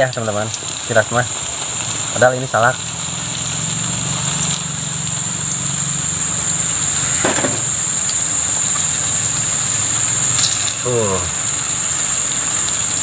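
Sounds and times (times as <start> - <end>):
oil sizzling while deep-frying: 0.0 - 13.0.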